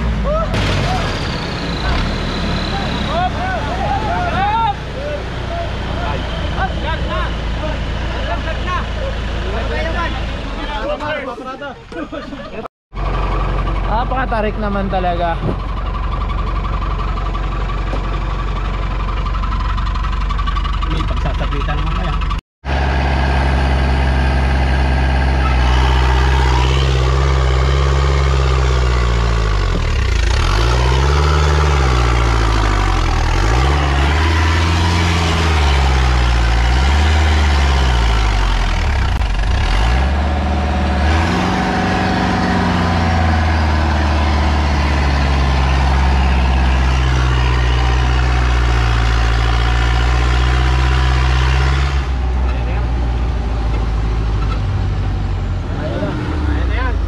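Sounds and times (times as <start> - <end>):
vehicle engine under load: 0.0 - 57.0.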